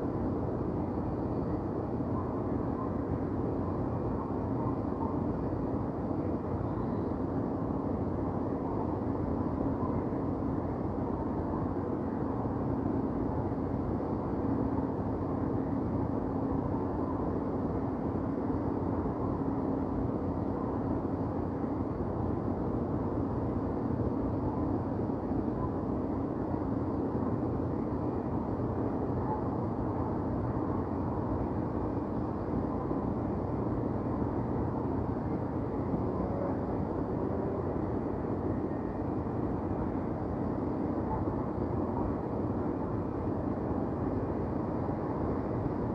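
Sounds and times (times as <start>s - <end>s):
distant traffic: 0.0s - 45.9s
faint steady hum: 0.0s - 45.9s.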